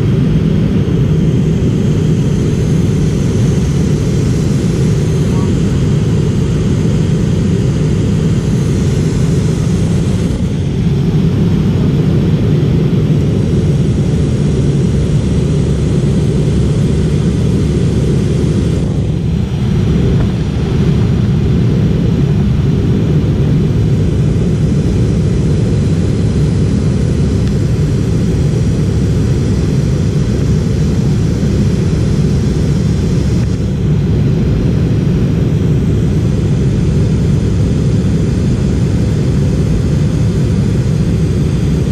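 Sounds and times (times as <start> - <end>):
jet engine cabin rumble: 0.0 - 41.9.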